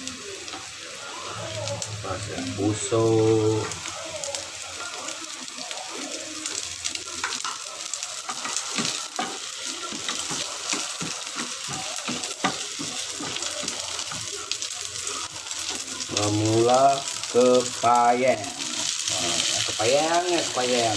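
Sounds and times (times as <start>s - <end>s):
food sizzling in hot oil: 0.0s - 20.9s
wooden spatula stirring in pan: 0.4s - 20.9s.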